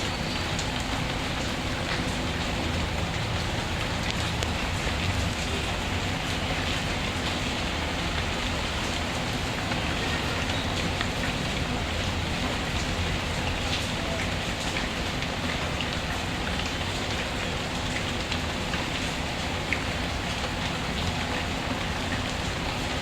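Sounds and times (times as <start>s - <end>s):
rain drop ticks: 0.0s - 23.0s
steady rain falling: 0.0s - 23.0s.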